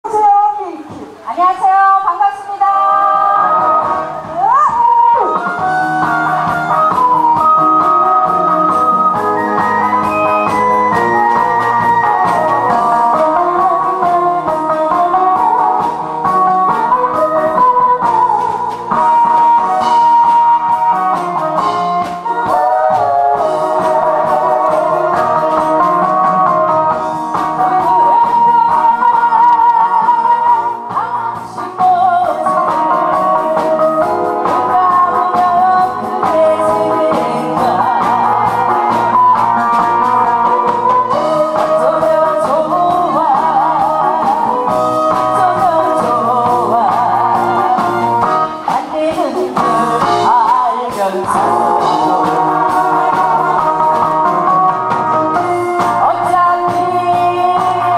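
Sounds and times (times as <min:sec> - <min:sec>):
amplified backing music with guitar: 0:00.0 - 0:57.9
woman singing into microphone: 0:00.0 - 0:57.9.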